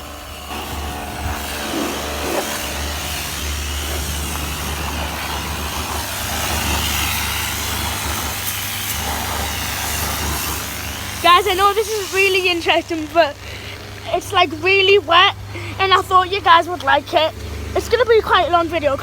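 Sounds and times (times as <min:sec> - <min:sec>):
low machine hum: 0:00.0 - 0:19.0
water spraying: 0:00.0 - 0:19.0.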